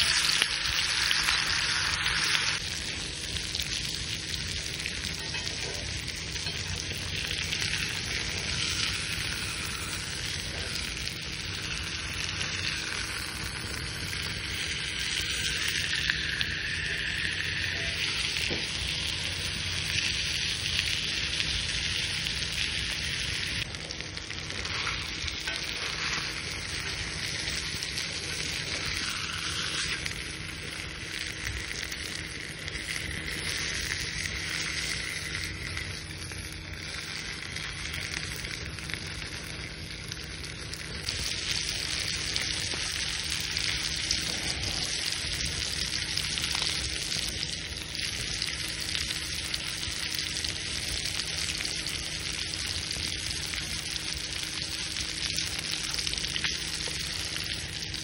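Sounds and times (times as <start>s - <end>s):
steak sizzling over wood fire: 0.0s - 58.0s.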